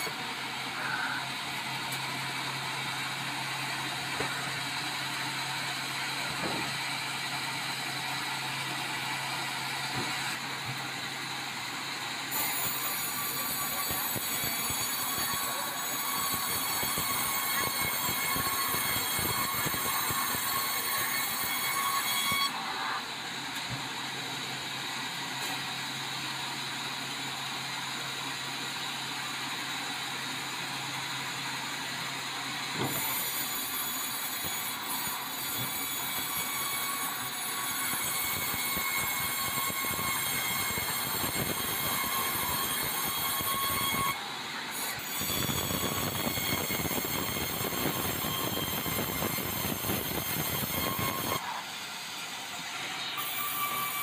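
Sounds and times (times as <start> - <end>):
band saw cutting log: 0.0 - 29.1, 29.7 - 54.0.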